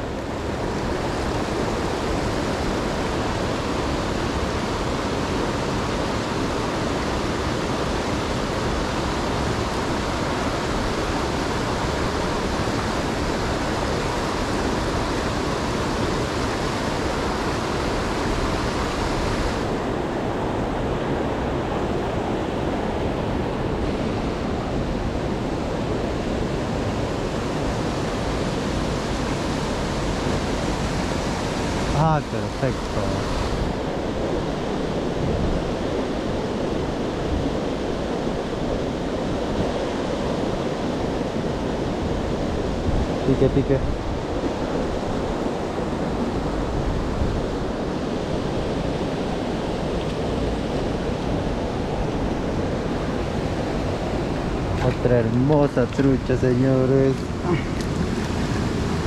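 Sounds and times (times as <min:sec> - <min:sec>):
rushing mountain stream: 0:00.0 - 0:59.0.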